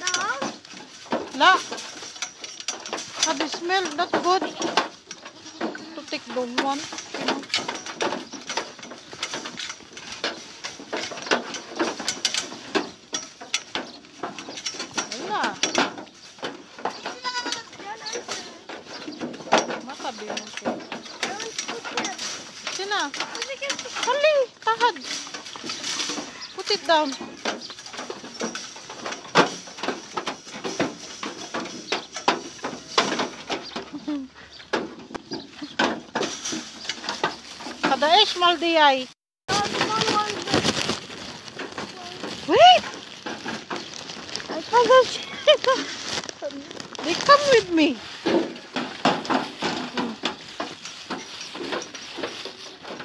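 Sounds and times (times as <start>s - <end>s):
crackling and knocking: 0.0s - 53.0s
goats crunching dry bread: 0.0s - 53.0s.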